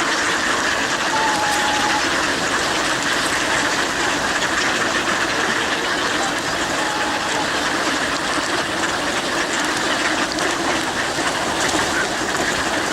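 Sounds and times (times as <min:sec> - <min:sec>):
swans and ducks calling: 0:00.0 - 0:12.9.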